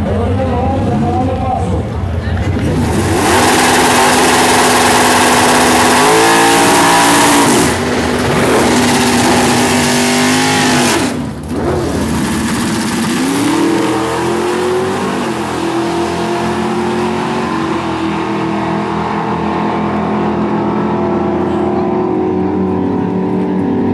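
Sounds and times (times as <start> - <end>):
drag cars accelerating: 0.0 - 23.9
car engine revving: 2.4 - 23.9.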